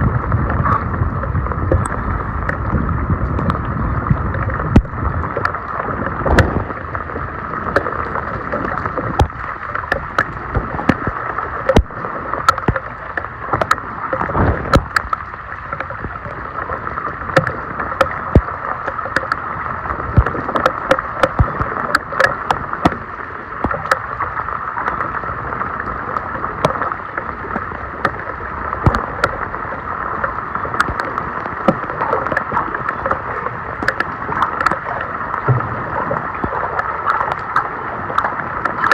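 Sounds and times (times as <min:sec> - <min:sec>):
water splashes and knocks: 0:00.0 - 0:38.9.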